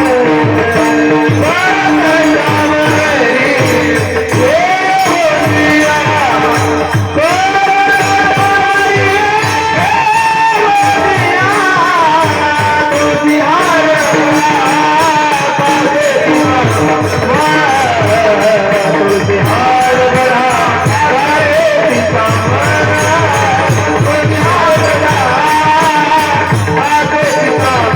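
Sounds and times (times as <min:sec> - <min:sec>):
jingling percussion: 0:00.0 - 0:27.9
ornamented devotional melody: 0:00.0 - 0:27.9
quick drum beat: 0:00.0 - 0:27.9.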